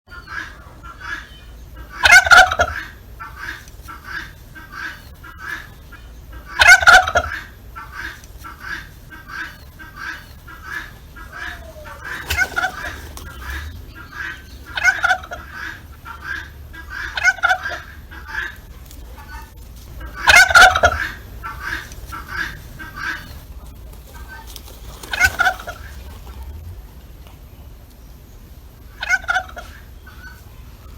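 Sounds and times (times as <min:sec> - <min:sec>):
short turkey calls: 0:00.1 - 0:26.6, 0:28.7 - 0:30.9
turkeys gobbling: 0:00.1 - 0:30.9.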